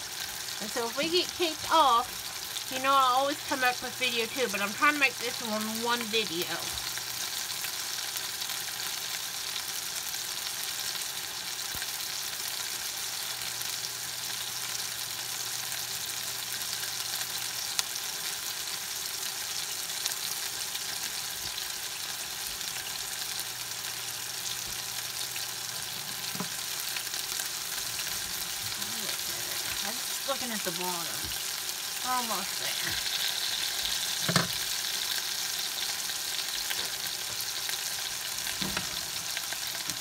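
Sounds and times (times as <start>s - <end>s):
burger patties sizzling in a skillet: 0.0s - 40.0s.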